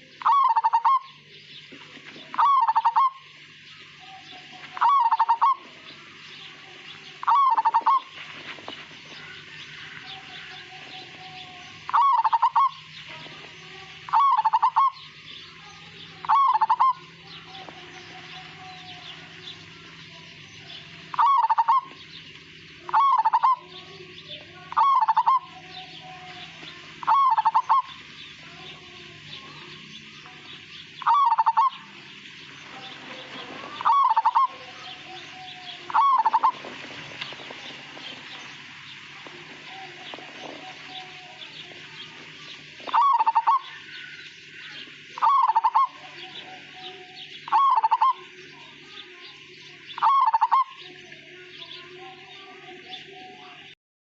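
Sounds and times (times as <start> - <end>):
dove cooing: 0.0 - 1.3, 1.9 - 32.0, 32.6 - 49.2, 49.8 - 52.0
steady background hiss: 0.0 - 53.7.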